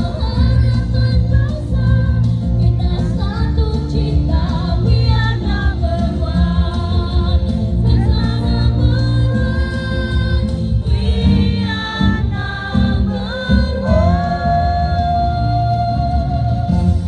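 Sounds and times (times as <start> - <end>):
musical accompaniment: 0.0 - 17.0.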